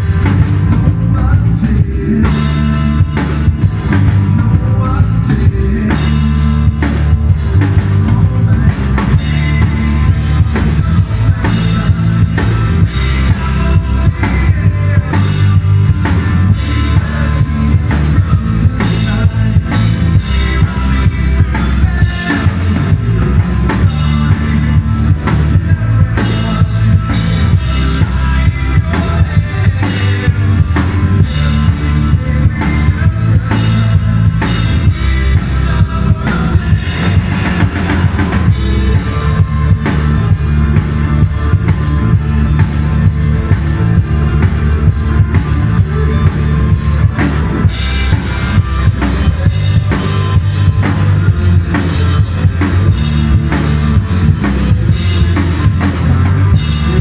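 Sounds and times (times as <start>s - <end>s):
drum kit beat: 0.0s - 57.0s
electric guitars: 0.0s - 57.0s.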